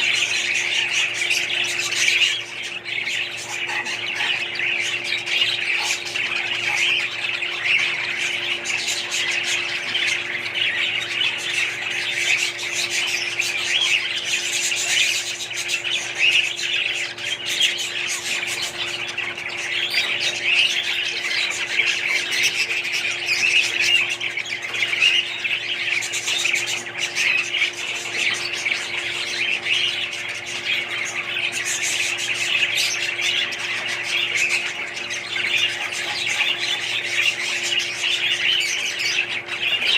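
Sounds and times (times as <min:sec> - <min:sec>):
parrots chattering and squawking: 0:00.0 - 0:39.9
steady low hum: 0:00.0 - 0:39.9.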